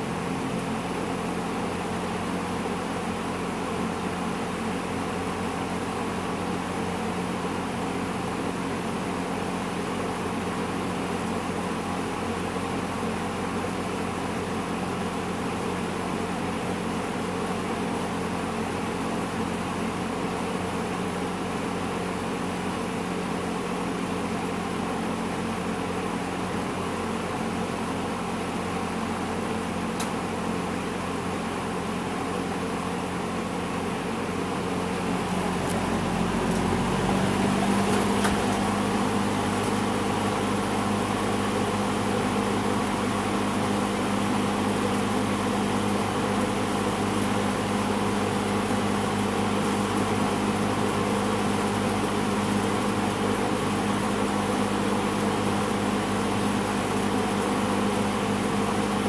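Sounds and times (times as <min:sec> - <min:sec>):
box fan motor hum: 0:00.0 - 0:59.0
fan air rushing: 0:00.0 - 0:59.0.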